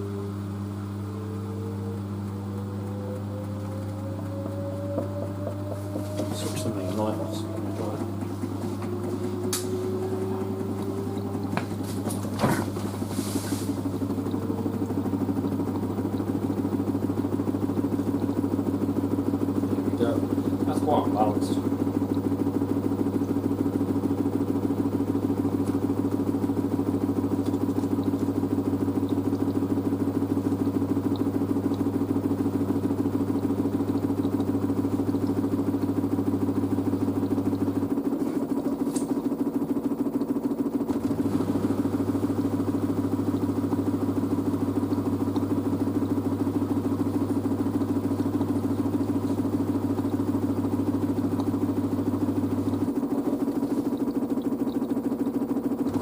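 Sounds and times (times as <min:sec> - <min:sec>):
washer drum spinning hum: 0:00.0 - 0:56.0.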